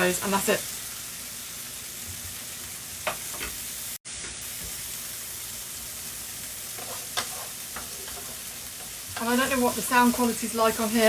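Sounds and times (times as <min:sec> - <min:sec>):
beans sizzling in a pan: 0:00.0 - 0:11.0.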